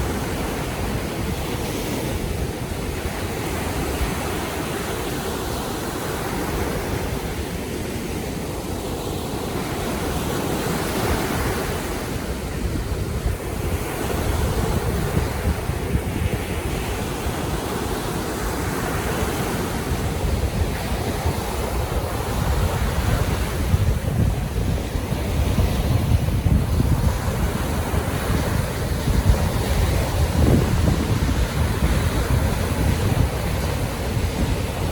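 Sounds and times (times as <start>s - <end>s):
sea waves surfing: 0.0s - 34.9s
wind buffeting microphone: 0.0s - 34.9s.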